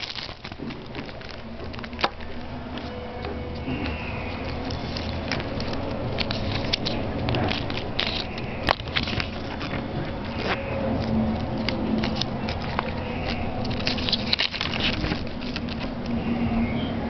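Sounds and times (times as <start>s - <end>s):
paper and plastic rustling: 0.0s - 16.7s.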